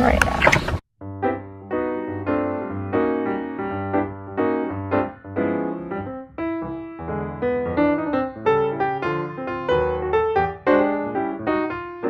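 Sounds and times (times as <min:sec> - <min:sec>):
piano chords: 0:01.0 - 0:12.0.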